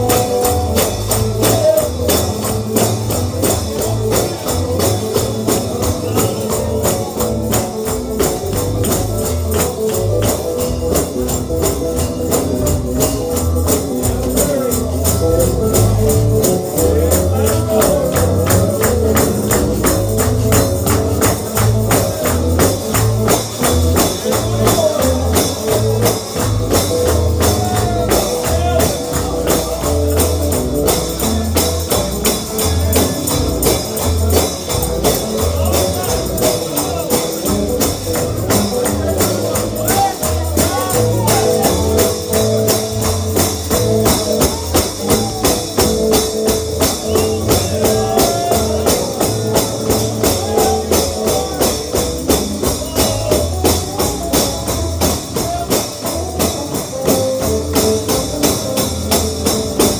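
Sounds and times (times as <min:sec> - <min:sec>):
gospel shouting music: 0:00.0 - 0:59.9
tambourine beat: 0:00.0 - 0:59.9.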